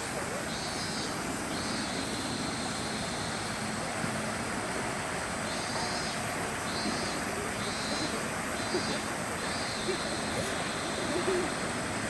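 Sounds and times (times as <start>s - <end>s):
faint high buzz: 0.0s - 12.0s
outdoor background hiss: 0.0s - 12.0s.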